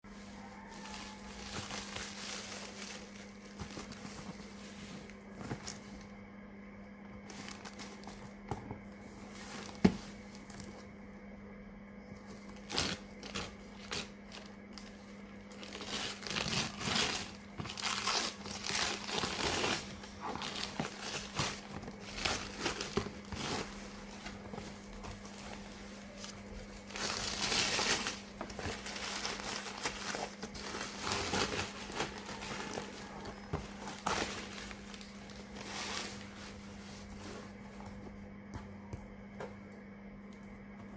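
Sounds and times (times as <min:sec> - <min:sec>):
plastic and paper crinkling: 0:00.1 - 0:06.1, 0:07.2 - 0:08.6, 0:12.2 - 0:38.0
steady low hum: 0:00.1 - 0:40.9.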